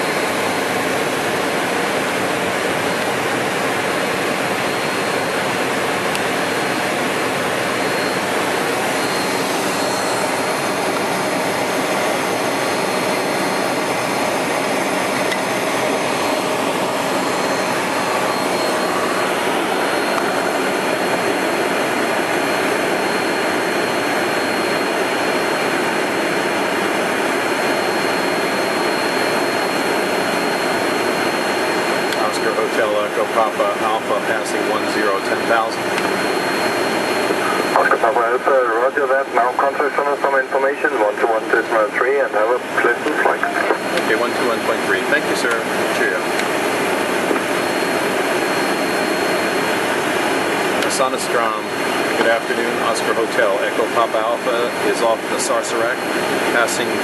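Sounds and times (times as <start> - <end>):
jet engines in cockpit: 0.0 - 57.0
thin high whine: 4.0 - 57.0.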